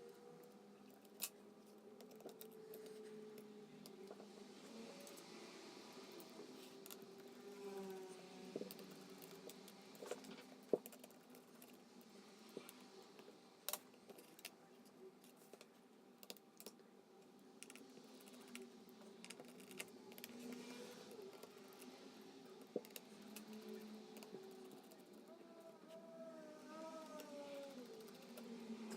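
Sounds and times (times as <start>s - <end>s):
faint hum: 0.0s - 28.9s.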